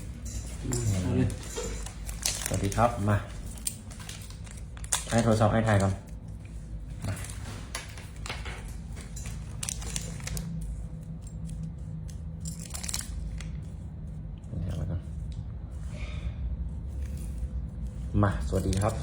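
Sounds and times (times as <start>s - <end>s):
handling clicks and rustles: 0.0s - 14.2s, 16.8s - 19.0s
steady low hum: 0.0s - 19.0s.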